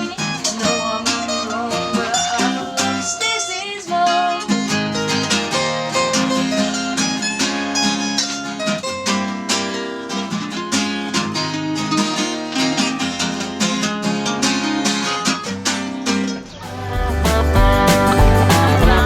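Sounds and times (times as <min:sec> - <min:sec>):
instrumental music with plucked notes: 0:00.0 - 0:19.0.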